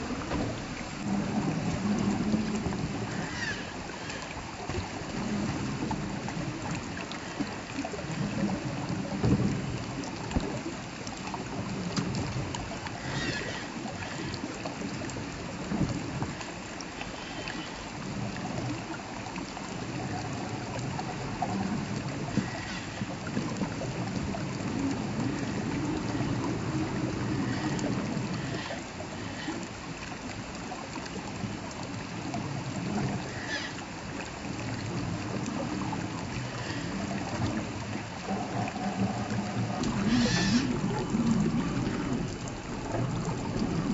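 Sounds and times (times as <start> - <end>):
stream trickling over rocks: 0.0 - 43.9.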